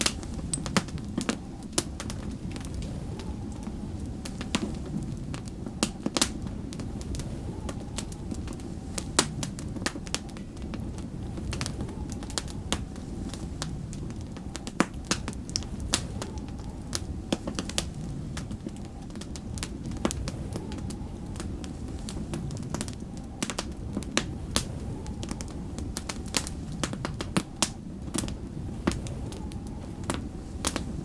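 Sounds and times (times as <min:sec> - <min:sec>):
steady low rumble: 0:00.0 - 0:31.0
wood fire crackling and popping: 0:00.0 - 0:31.0.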